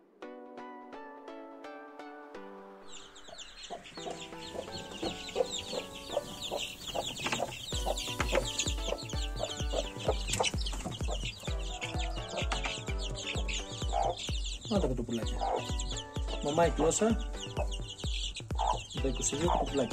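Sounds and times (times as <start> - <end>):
background music with steady beat: 0.0 - 19.9
chicks peeping: 2.8 - 19.9.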